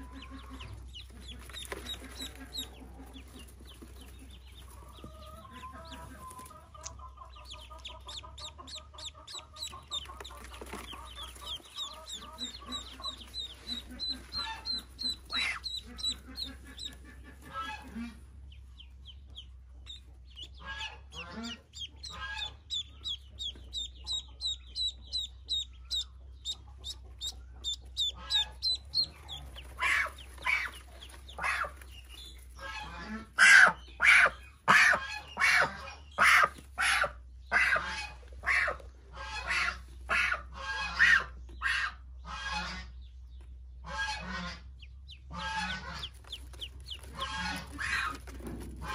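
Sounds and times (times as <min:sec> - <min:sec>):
ducklings peeping: 0:00.0 - 0:48.9.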